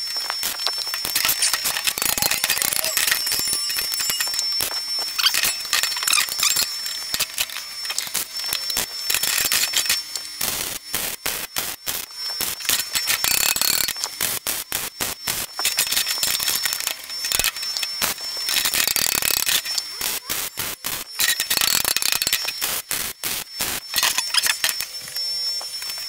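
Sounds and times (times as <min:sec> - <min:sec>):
welder crackling: 0:00.0 - 0:26.0.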